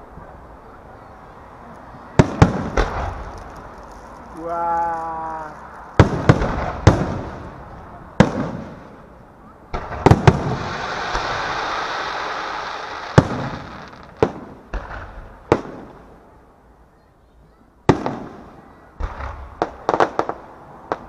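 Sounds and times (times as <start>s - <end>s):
fireworks crackling: 1.7s - 16.3s, 17.9s - 21.0s
fireworks booming: 2.1s - 16.2s, 17.9s - 21.0s.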